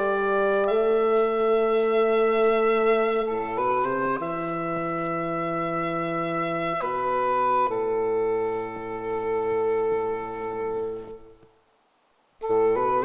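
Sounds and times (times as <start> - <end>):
sustained woodwind chords: 0.0 - 11.5, 12.4 - 13.0.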